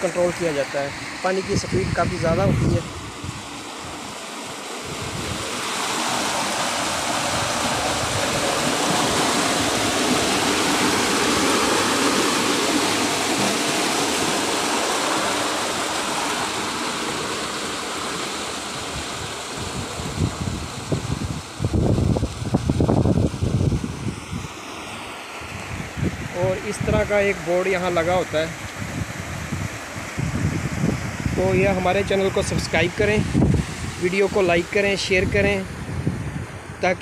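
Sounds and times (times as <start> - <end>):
water rushing through culvert: 0.0 - 37.0.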